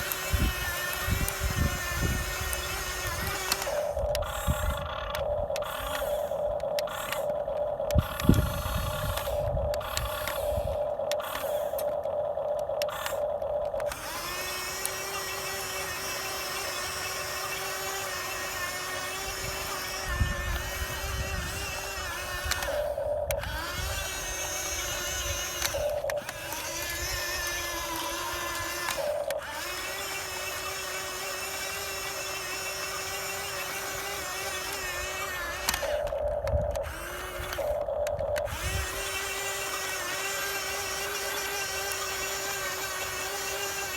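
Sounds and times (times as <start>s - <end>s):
small electric motors whining: 0.0s - 43.9s.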